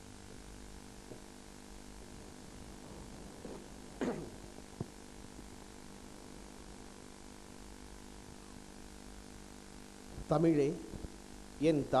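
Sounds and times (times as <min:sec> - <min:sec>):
electrical mains hum with hiss: 0:00.0 - 0:12.0.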